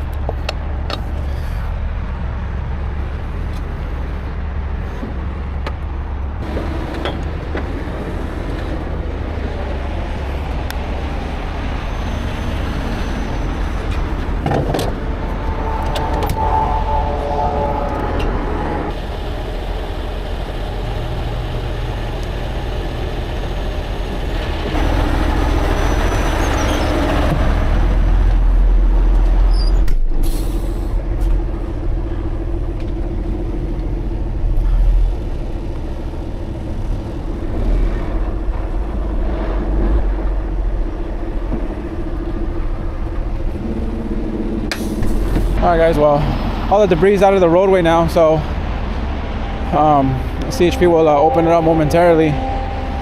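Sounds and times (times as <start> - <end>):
truck engine rumbling: 0.0 - 53.0.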